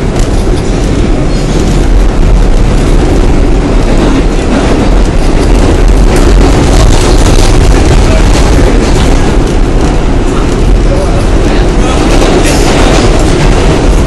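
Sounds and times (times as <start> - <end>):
moving train rumble: 0.0 - 14.0.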